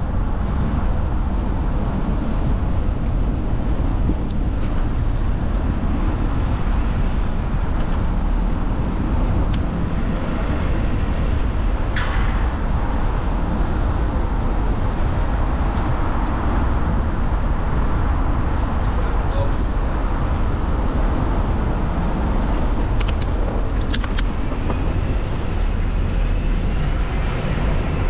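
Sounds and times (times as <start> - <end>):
low rumble: 0.0 - 28.0
road traffic passing: 0.0 - 28.0.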